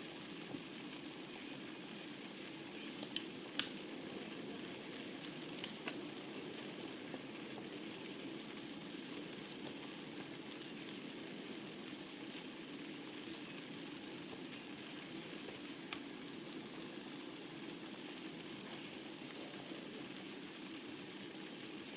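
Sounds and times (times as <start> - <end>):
burning logs crackling and popping: 0.0 - 21.9
rush of fire flames: 0.0 - 21.9.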